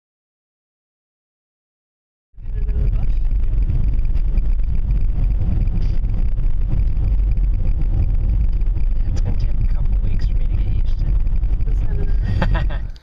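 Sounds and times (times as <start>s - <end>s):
car engine and road noise: 2.4s - 13.0s.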